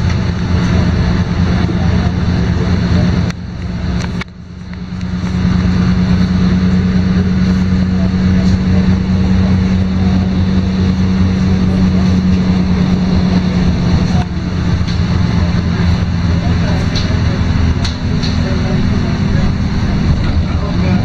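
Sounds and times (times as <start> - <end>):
bus engine humming: 0.0 - 21.0.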